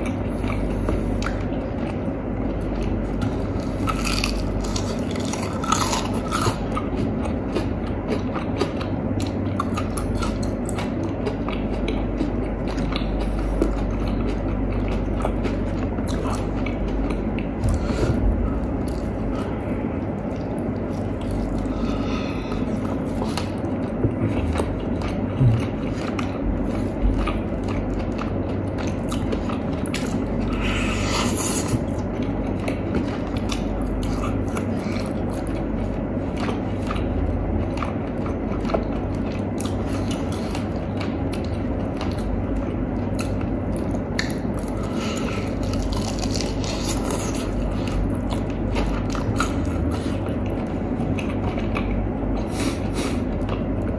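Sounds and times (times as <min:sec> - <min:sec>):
biting and chewing food: 0:00.0 - 0:53.9
low background hum: 0:00.0 - 0:53.9.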